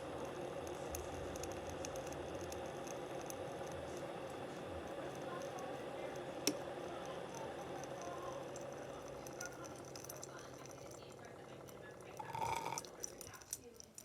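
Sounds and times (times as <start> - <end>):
coffee maker hissing: 0.0 - 14.0
faint crackles and drips: 0.0 - 14.0.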